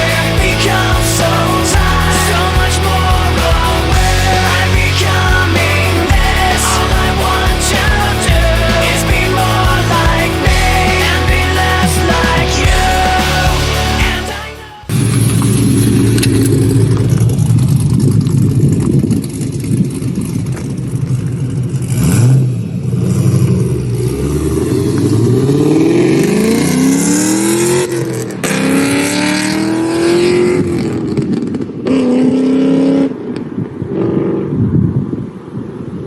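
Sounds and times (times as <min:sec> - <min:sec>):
car engine accelerating hard: 0:00.0 - 0:34.6.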